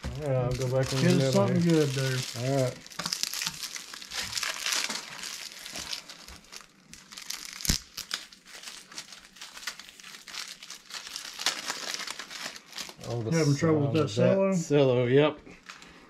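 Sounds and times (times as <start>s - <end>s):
cellophane wrapper crinkling: 0.0s - 13.2s, 15.5s - 16.0s.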